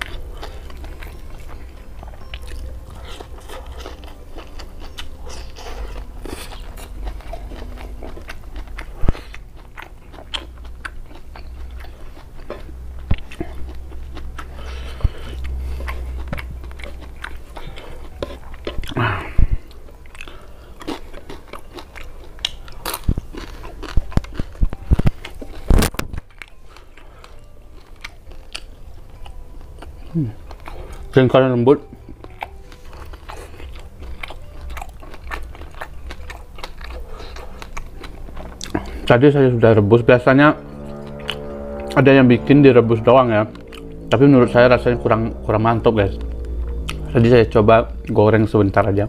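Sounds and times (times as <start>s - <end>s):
chewing and crunching vegetables: 0.0s - 49.0s.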